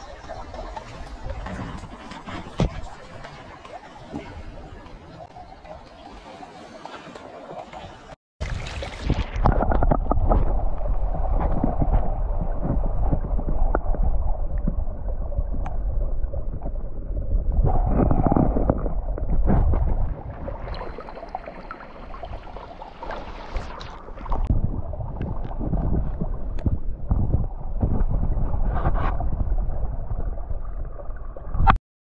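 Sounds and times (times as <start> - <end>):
muffled underwater stream gurgling: 0.0 - 31.8.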